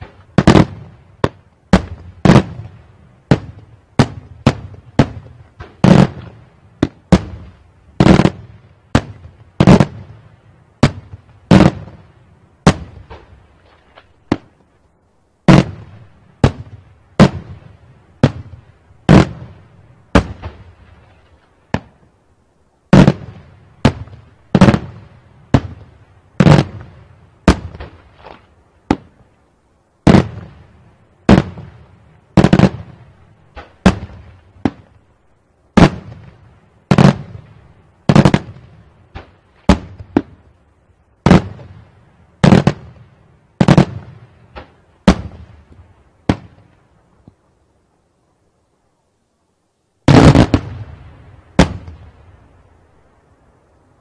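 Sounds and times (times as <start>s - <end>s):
fireworks bursting with loud bangs: 0.0s - 14.7s, 15.4s - 22.2s, 22.9s - 29.3s, 30.0s - 47.3s, 50.0s - 52.7s.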